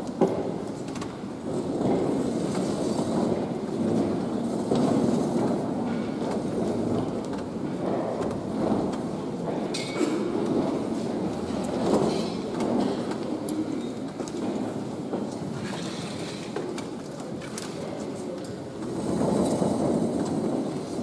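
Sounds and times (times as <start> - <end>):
chairs and stands scraping: 0.0 - 21.0.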